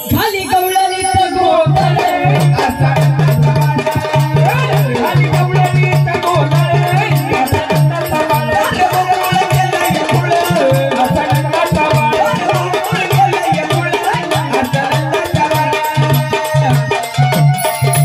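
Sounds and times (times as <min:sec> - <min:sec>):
drum steady beat: 0:00.0 - 0:18.0
light percussion: 0:00.0 - 0:18.0
wavering melody line: 0:00.0 - 0:18.0.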